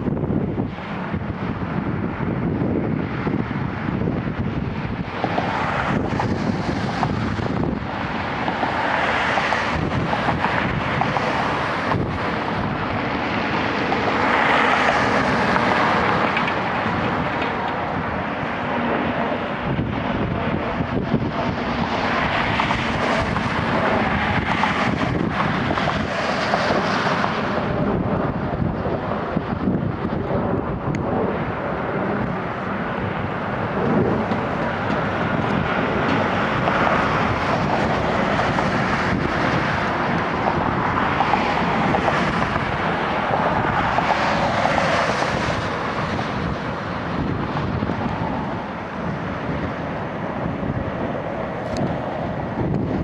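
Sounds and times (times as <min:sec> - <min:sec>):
jet engines at taxi idle: 0:00.0 - 0:53.0
wind buffeting microphone: 0:00.0 - 0:53.0.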